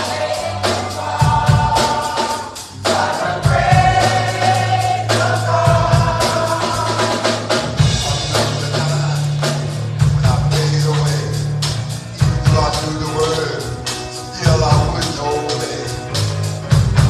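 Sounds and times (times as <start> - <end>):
bass notes: 0.0 - 17.0
drum kit hits: 0.0 - 17.0
keyboard chords: 0.0 - 17.0.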